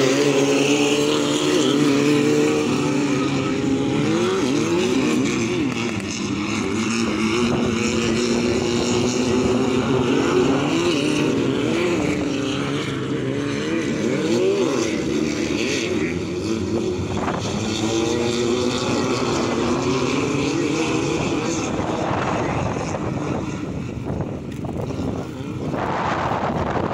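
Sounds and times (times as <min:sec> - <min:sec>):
race buggy engines revving: 0:00.0 - 0:26.9.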